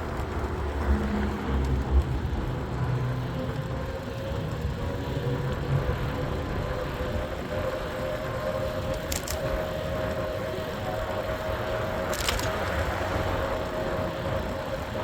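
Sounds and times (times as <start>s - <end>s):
road rumble: 0.0s - 15.0s
wind: 0.0s - 15.0s
thin motor whine: 0.2s - 15.0s.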